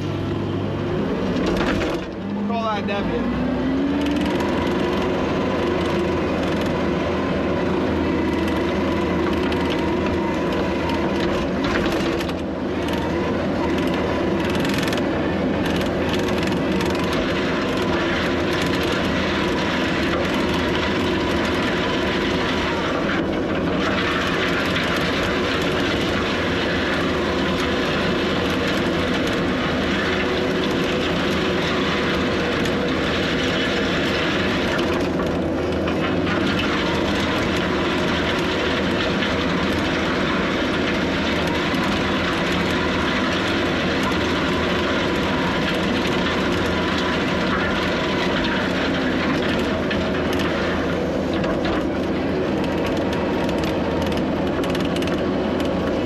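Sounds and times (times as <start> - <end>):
diesel earthmoving machine engine drone: 0.0 - 56.0
hydraulics whine: 0.0 - 56.0.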